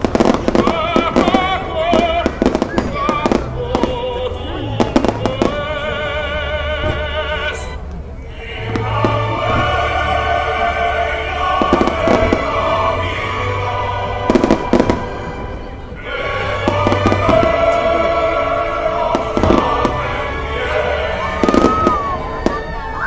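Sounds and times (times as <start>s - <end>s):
fireworks bangs: 0.0s - 6.0s, 8.6s - 10.2s, 11.4s - 23.0s
music: 0.0s - 23.0s.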